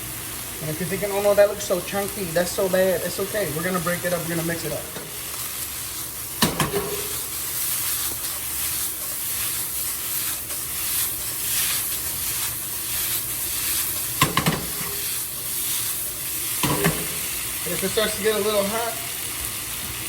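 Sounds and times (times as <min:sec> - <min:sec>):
rice sizzling in a pan: 0:00.0 - 0:20.0.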